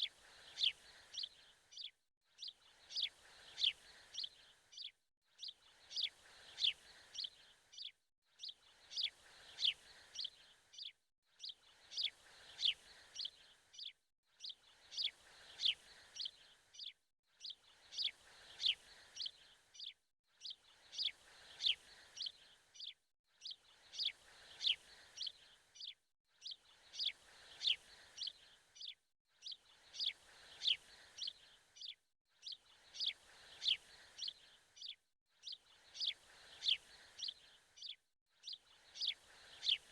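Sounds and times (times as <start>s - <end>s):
birds chirping: 0.3s - 35.0s, 39.0s - 39.9s.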